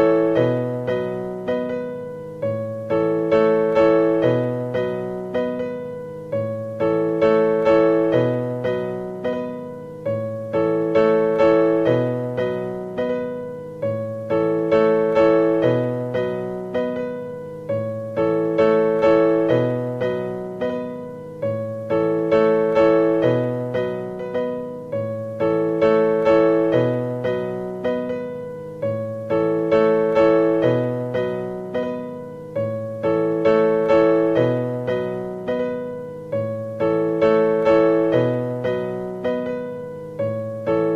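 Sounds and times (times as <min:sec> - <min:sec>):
gentle piano music: 0:00.0 - 0:40.9.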